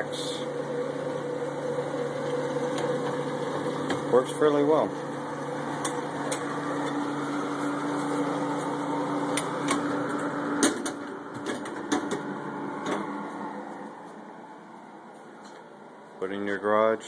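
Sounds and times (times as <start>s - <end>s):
vending machine cooling hum: 0.0s - 17.0s.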